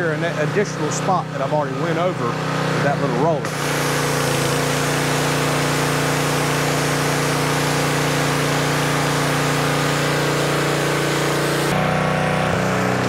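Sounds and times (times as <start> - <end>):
water jet hissing on concrete: 0.0 - 11.8
pressure washer engine running: 0.0 - 13.0.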